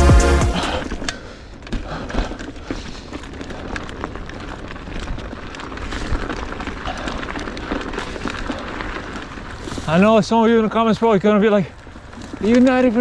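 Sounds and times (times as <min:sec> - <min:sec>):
tyre noise on snow: 0:00.0 - 0:13.0
bike clicks and rattles: 0:00.8 - 0:13.0.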